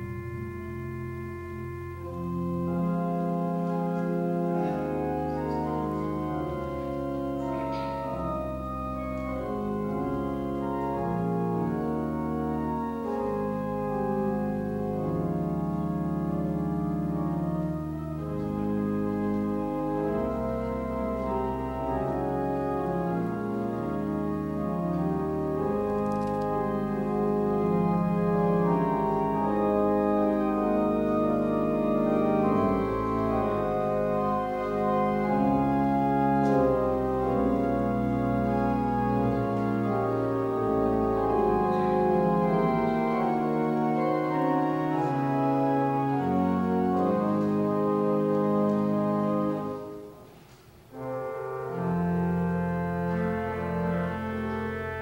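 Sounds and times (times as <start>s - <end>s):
pipe organ sustained chords: 0.0s - 55.0s.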